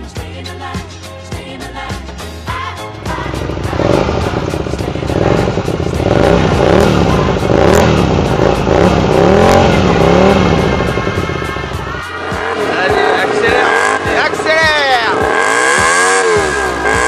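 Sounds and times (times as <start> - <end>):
motorcycle engine revving: 3.0 - 17.0.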